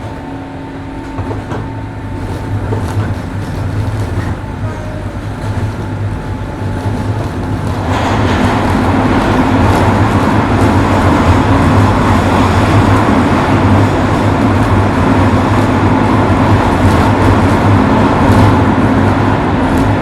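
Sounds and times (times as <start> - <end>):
steady train hum: 0.0 - 20.0
train wheels rumbling on rails: 0.0 - 20.0.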